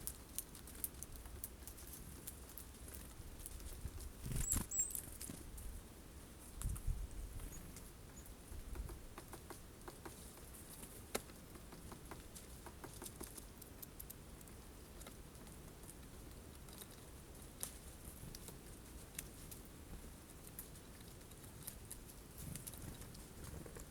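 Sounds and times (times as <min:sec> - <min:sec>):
birds pecking seeds: 0:00.0 - 0:23.9.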